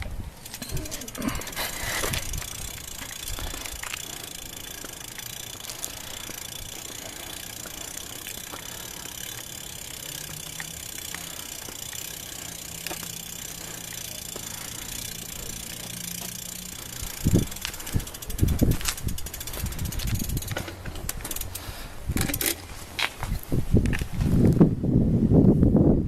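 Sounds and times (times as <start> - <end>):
vehicle engine idling: 0.4 - 22.0.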